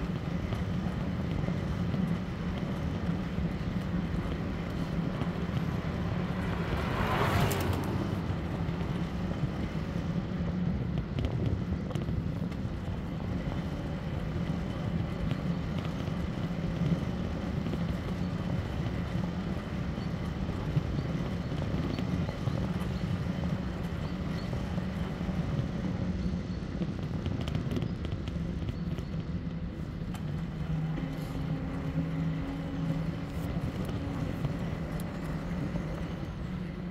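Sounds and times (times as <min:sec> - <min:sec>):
e-bike motor hum: 0:00.0 - 0:36.9
tyres rumbling on road: 0:00.0 - 0:36.9.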